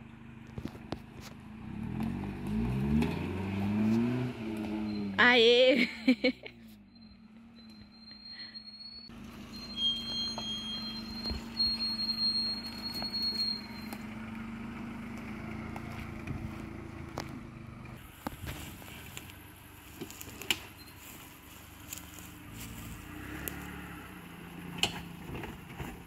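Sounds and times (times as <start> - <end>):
car engine running at low revs: 0.0 - 8.3, 9.1 - 26.0.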